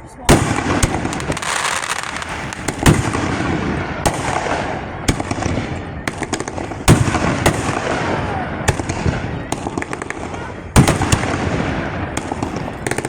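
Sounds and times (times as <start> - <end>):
fireworks crackling and fizzing: 0.0 - 13.0
firework shells bursting: 0.3 - 13.0.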